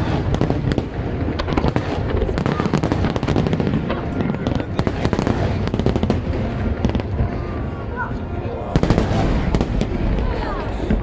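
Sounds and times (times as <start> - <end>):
fireworks cracks and bangs: 0.0 - 7.9, 8.7 - 11.0
crowd voices: 0.0 - 11.0.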